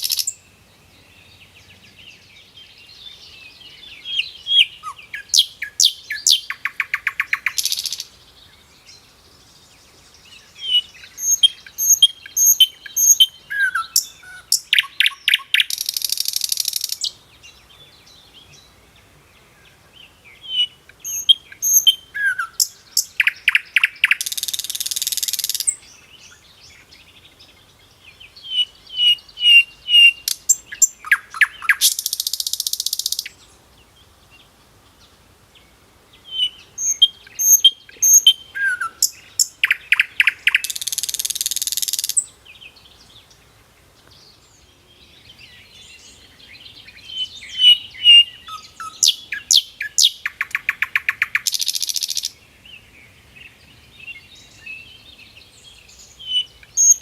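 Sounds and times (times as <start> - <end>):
bird singing with trill and buzz: 0.0 - 57.0.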